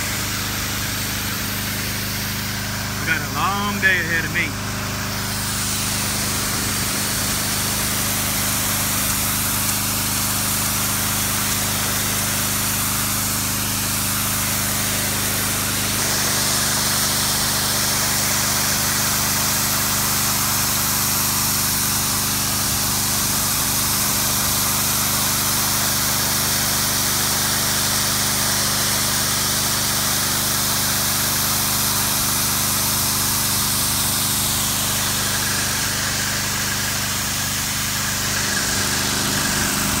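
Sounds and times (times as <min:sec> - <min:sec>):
pressure washer engine running: 0:00.0 - 0:40.0
water jet hissing on concrete: 0:00.0 - 0:40.0.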